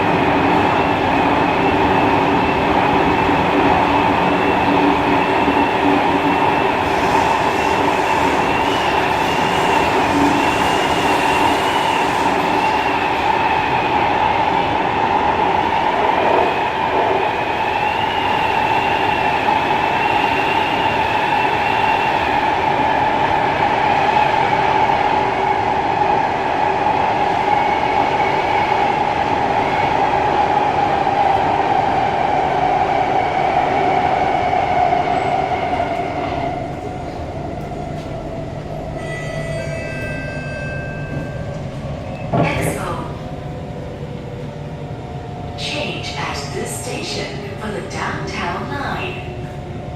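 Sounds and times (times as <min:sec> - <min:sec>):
train rumbling on rails: 0:00.0 - 0:49.9.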